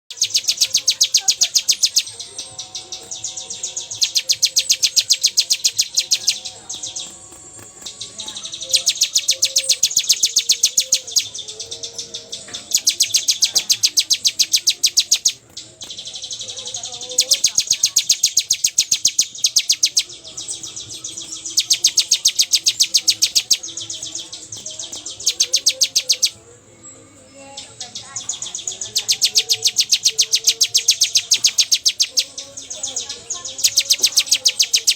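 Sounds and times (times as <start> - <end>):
bird singing rapid high notes: 0.0 - 26.5, 27.5 - 34.9.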